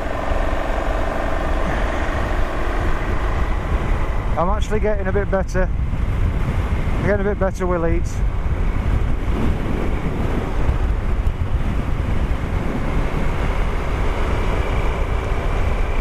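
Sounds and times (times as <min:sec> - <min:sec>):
motorcycle engine: 0:00.0 - 0:16.0
road noise: 0:00.0 - 0:16.0
wind rushing over microphone: 0:00.0 - 0:16.0.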